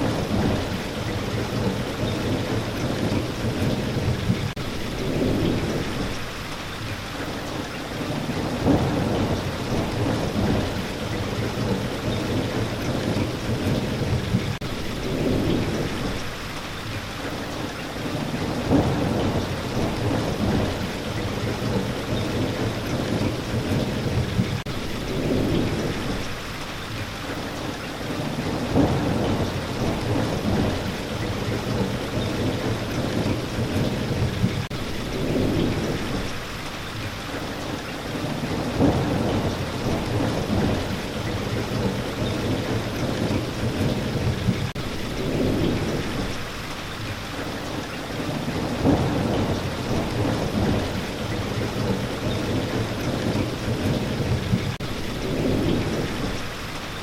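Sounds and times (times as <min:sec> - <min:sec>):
low rolling thunder: 0:00.0 - 0:56.8
heavy rain: 0:00.0 - 0:57.0.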